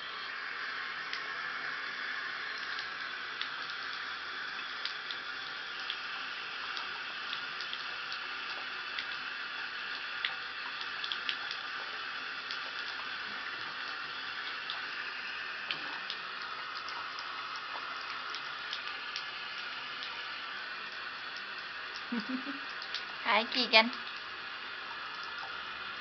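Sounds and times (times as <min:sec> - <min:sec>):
drips and splashes: 0:00.0 - 0:26.0
water running into bathtub: 0:00.0 - 0:26.0.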